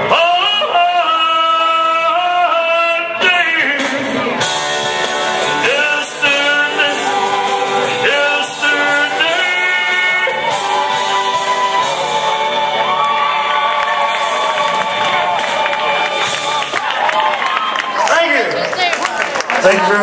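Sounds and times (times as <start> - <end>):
live band playing slow ballad: 0.0 - 17.2.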